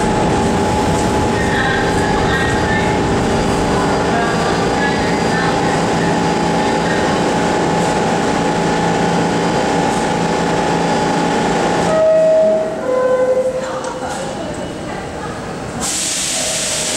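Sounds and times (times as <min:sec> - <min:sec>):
subway train humming with held tones: 0:00.0 - 0:16.9.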